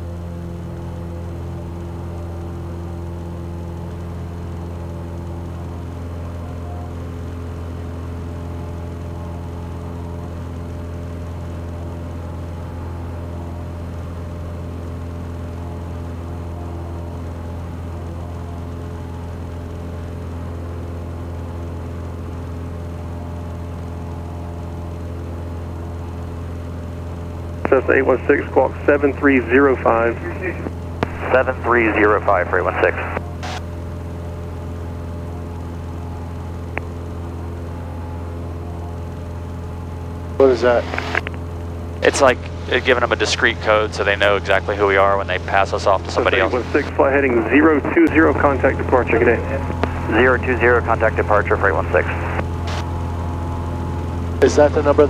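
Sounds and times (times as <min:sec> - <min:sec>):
aircraft propeller engine drone: 0:00.0 - 0:55.0.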